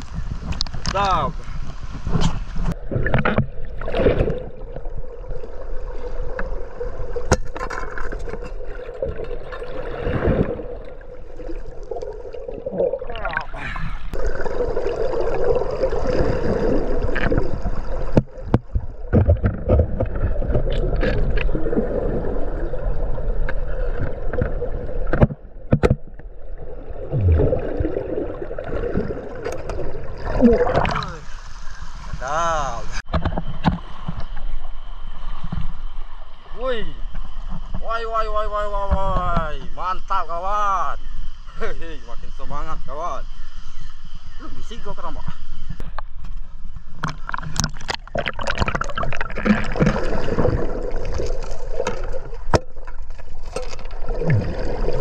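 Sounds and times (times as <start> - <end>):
underwater river rushing: 0.0 - 41.5, 42.2 - 55.0.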